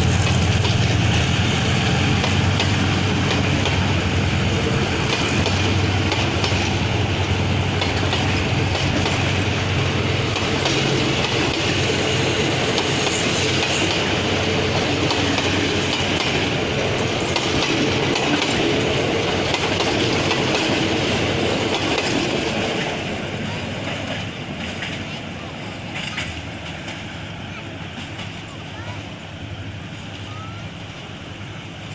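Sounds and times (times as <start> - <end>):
train wheels clattering over rail joints: 0.0 - 27.2, 27.8 - 29.1.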